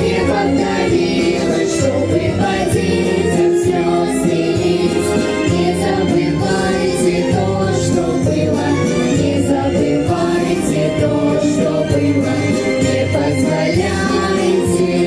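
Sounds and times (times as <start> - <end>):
choir-like singing: 0.0 - 15.0
instrumental backing: 0.0 - 15.0.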